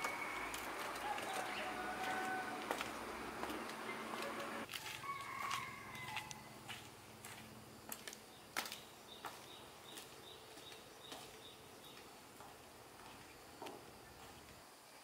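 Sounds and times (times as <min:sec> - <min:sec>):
heeled sandals on concrete: 0:00.0 - 0:14.6.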